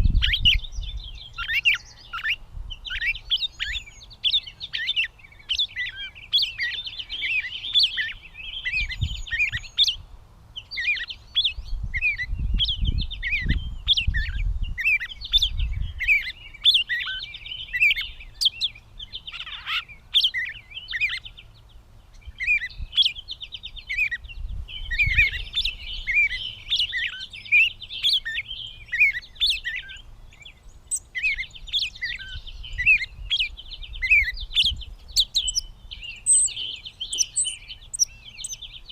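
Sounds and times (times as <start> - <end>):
catbird singing: 0.0 - 38.9.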